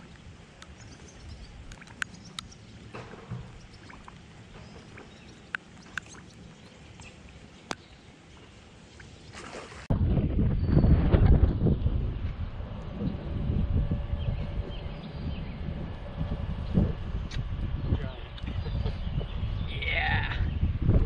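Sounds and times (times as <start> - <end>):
wind rumbling on microphone: 0.0 - 7.8, 9.0 - 21.0.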